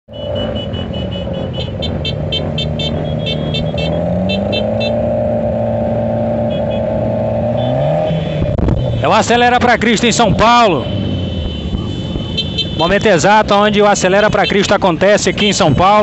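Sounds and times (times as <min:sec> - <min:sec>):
group of motorcycle engines: 0:00.1 - 0:16.0.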